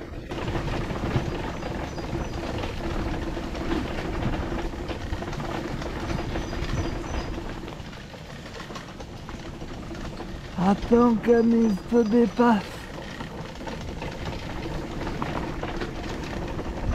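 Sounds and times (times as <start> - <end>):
wheelchair motor hum: 0.0 - 16.9
wheels rattling over paving: 0.0 - 16.9.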